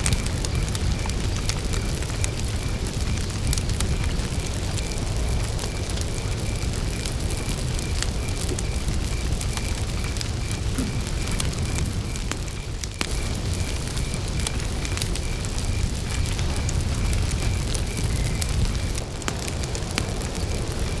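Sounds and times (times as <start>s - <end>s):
campfire crackling and popping: 0.0s - 21.0s
cricket chirping: 0.0s - 21.0s.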